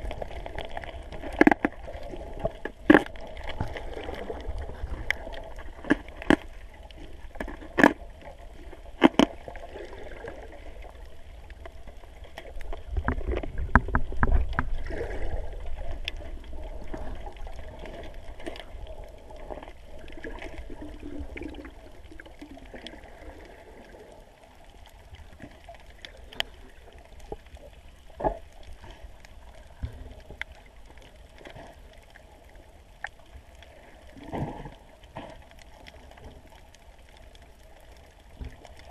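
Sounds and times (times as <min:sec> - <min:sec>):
low underwater rumbling: 0:00.0 - 0:38.9
muffled underwater water wash: 0:00.0 - 0:38.9.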